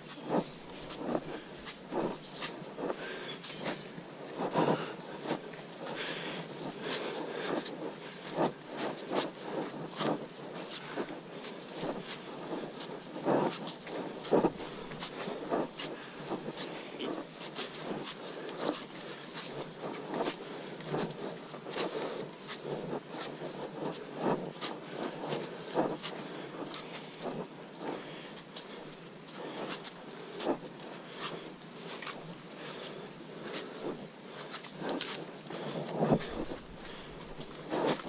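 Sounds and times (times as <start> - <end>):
footsteps on muddy trail: 0.0 - 38.0
insects buzzing: 0.0 - 38.0.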